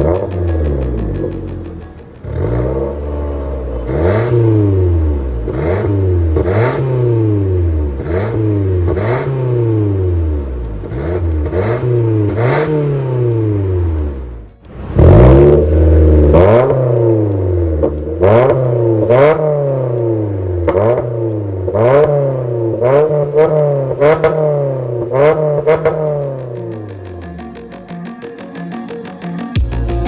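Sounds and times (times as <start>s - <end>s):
car engine revving: 0.0s - 27.7s.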